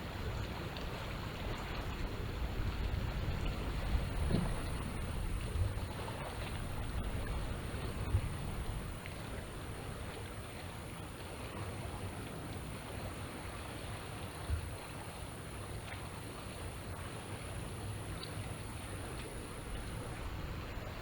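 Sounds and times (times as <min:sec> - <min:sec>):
small waves washing ashore: 0:00.0 - 0:21.0.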